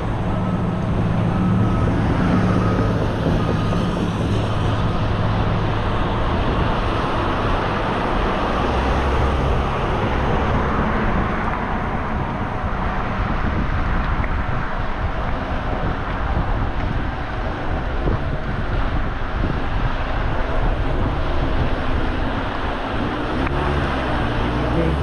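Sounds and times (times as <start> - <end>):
road and tyre noise: 0.0 - 25.0
vehicle engine hum: 0.0 - 25.0.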